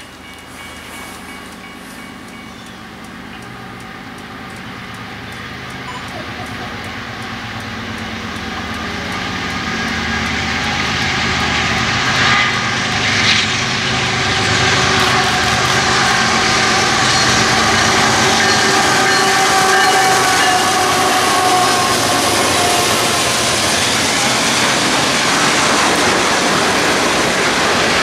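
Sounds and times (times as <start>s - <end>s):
diesel locomotive engine rumble: 0.0s - 28.0s
train noise: 0.0s - 28.0s.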